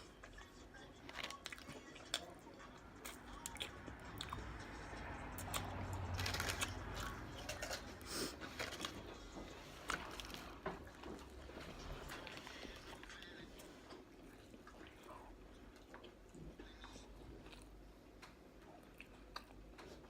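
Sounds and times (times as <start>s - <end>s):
chewing sandwich with crunches: 0.0s - 20.0s.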